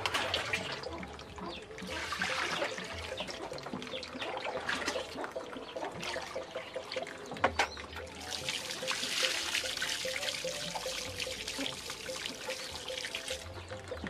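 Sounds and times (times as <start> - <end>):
water pouring and trickling: 0.0 - 14.0.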